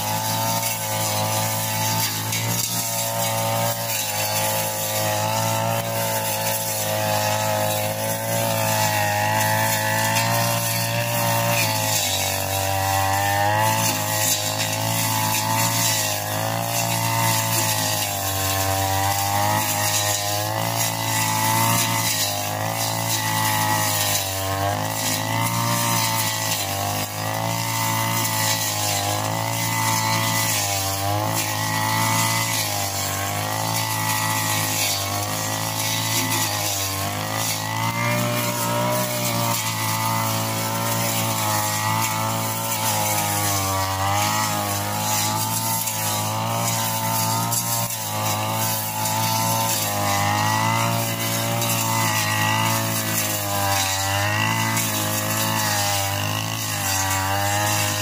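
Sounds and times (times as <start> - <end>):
brush cutter engine at high revs: 0.0 - 58.0.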